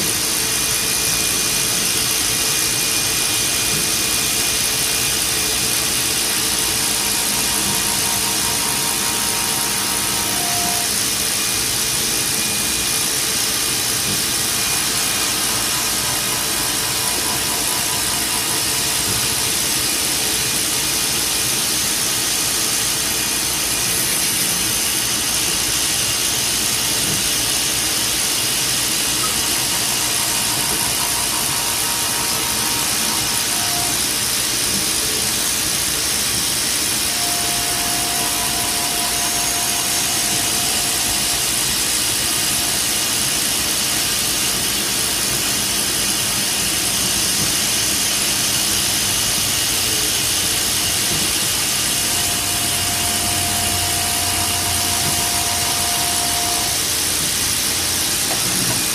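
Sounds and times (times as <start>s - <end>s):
milling machine cutting: 0.0s - 58.9s.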